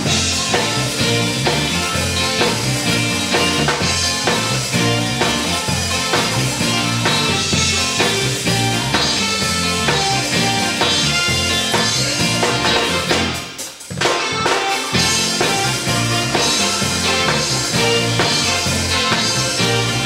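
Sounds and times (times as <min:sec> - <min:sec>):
low bass line: 0:00.0 - 0:13.4, 0:15.0 - 0:20.0
drum kit beat: 0:00.0 - 0:20.0
gospel band music: 0:00.0 - 0:20.0.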